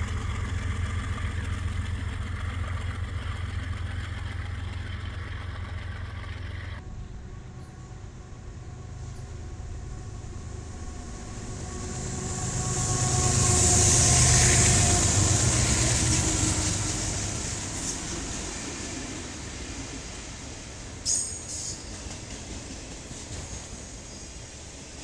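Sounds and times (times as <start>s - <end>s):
diesel locomotive engines rumbling: 0.0s - 25.0s
rail cars rolling with hiss: 0.0s - 25.0s.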